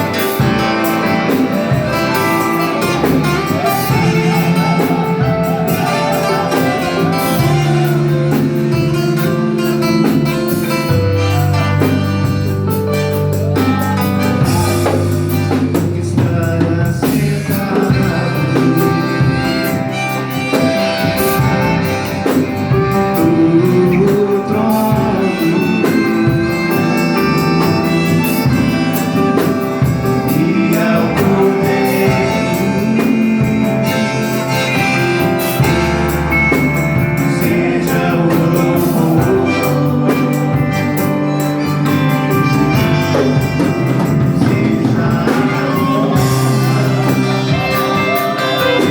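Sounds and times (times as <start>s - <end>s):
drum kit: 0.0s - 48.9s
guitar: 0.0s - 48.9s
person singing: 0.0s - 48.9s.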